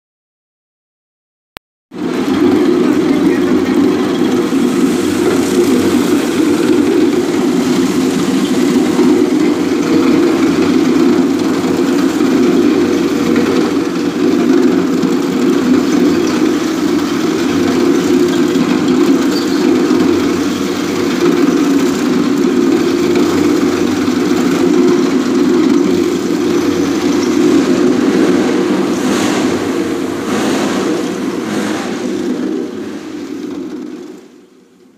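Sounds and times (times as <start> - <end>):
floor grinding machine drone: 2.0 - 34.9.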